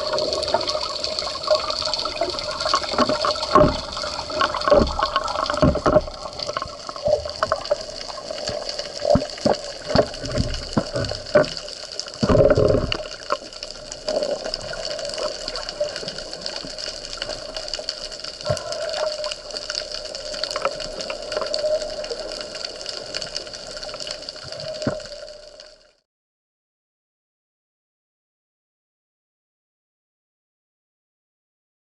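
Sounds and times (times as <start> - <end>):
knocks and clicks underwater: 0.0 - 25.7
rush of water: 0.0 - 25.9
underwater wash of sea: 0.0 - 26.0.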